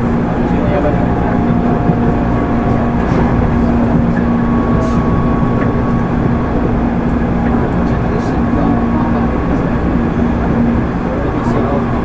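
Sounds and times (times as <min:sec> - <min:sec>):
running gear hum: 0:00.0 - 0:12.0
train wheels rumbling on rails: 0:00.0 - 0:12.0.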